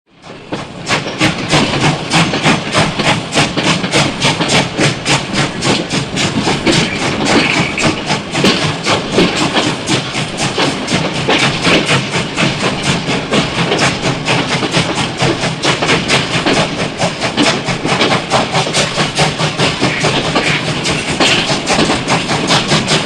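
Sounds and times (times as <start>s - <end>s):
steam locomotive chuffing: 0.1s - 23.0s
steady hiss of steam: 0.2s - 23.0s.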